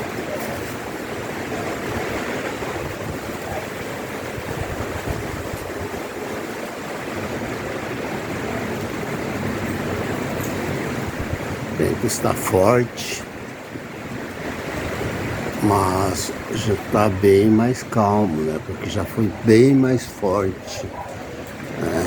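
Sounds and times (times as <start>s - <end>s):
strong gusty wind: 0.0s - 22.0s
wind buffeting microphone: 0.0s - 22.0s.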